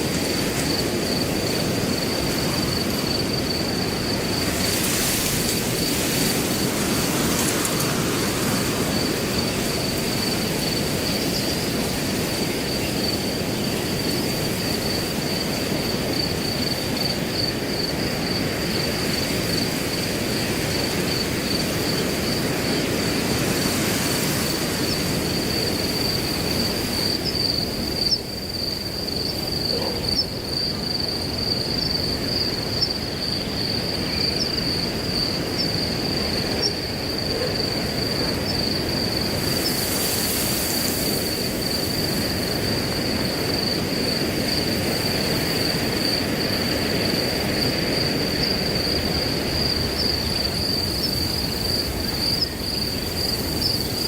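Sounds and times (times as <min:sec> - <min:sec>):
cricket trill: 0:00.0 - 0:54.0
wind rushing through grass: 0:00.0 - 0:54.0.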